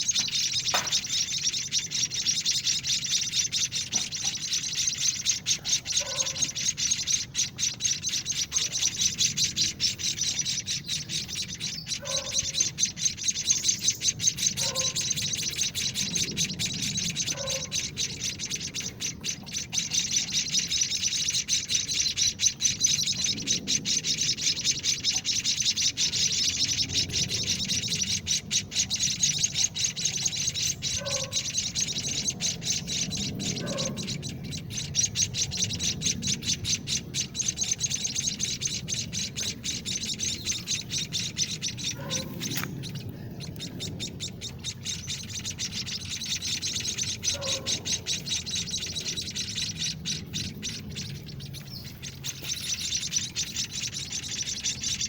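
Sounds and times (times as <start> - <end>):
nestlings chirping: 0.0 - 55.0.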